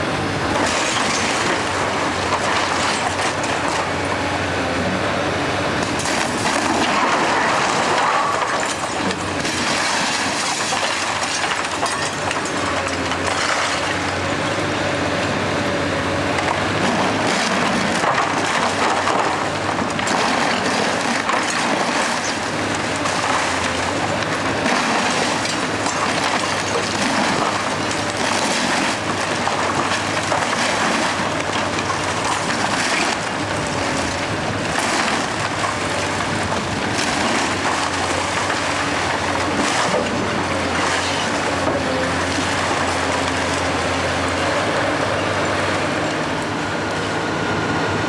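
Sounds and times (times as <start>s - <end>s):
excavator engine running: 0.0s - 48.0s
wood splintering and cracking: 0.5s - 4.2s, 5.8s - 14.3s, 16.4s - 44.9s
debris falling: 0.6s - 4.0s, 5.9s - 14.2s, 16.4s - 44.4s.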